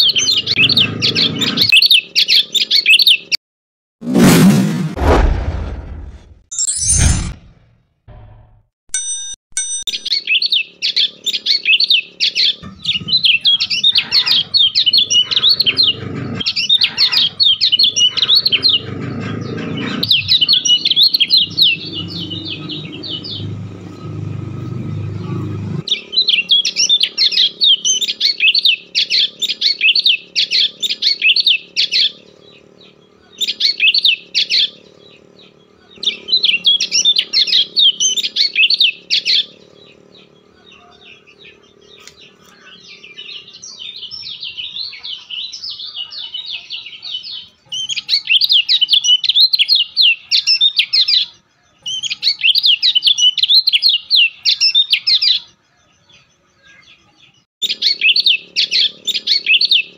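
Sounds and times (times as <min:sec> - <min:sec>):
bird chirping: 0:00.0 - 0:03.4, 0:09.9 - 0:59.9.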